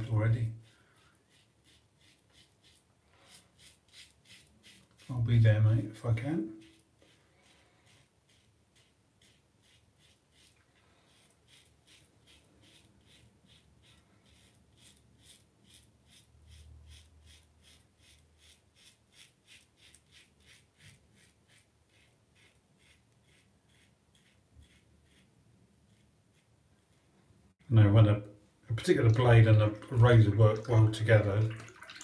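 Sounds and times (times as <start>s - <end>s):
razor scraping stubble: 0.0s - 26.9s.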